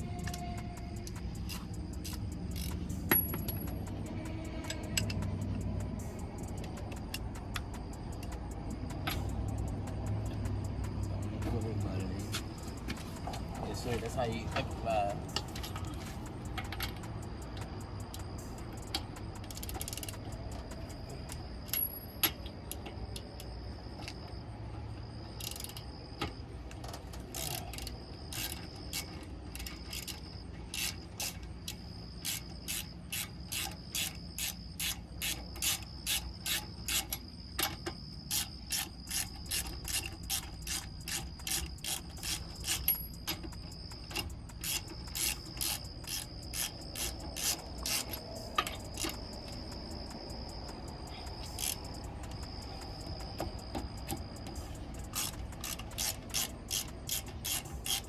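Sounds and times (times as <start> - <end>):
ratchet wrench clicking: 0.0 - 58.0.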